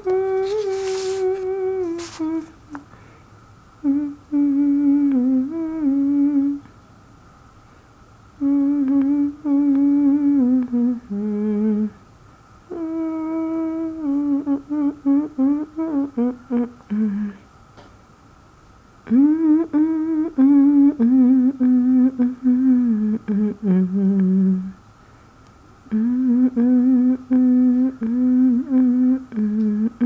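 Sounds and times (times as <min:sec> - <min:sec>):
person humming a slow tune: 0:00.0 - 0:02.9, 0:03.8 - 0:06.8, 0:08.4 - 0:12.0, 0:12.7 - 0:17.5, 0:19.0 - 0:24.8, 0:25.8 - 0:30.0.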